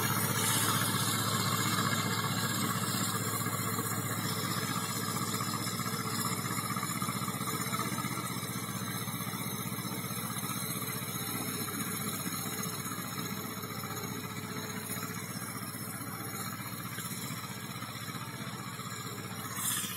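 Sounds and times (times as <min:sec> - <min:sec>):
tractor diesel engine running: 0:00.0 - 0:19.9.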